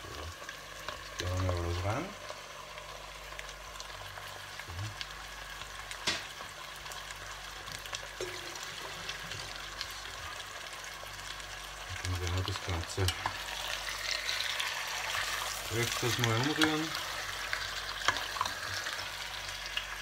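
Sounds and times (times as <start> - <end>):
meat sizzling in hot fat: 0.0 - 20.0.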